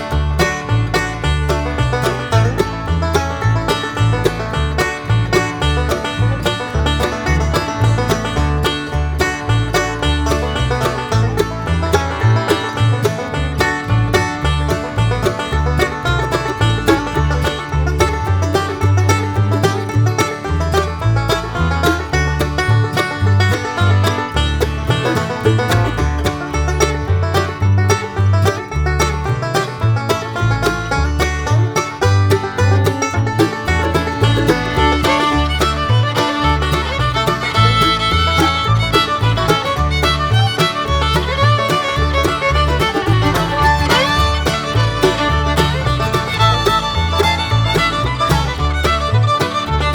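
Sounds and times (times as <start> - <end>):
bluegrass music: 0.0 - 49.9.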